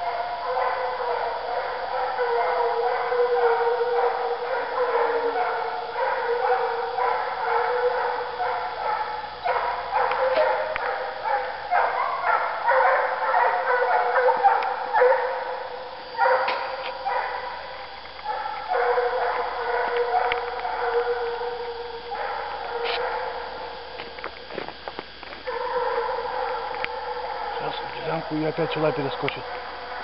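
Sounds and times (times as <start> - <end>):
hounds baying: 0.0 - 24.1, 25.4 - 30.0.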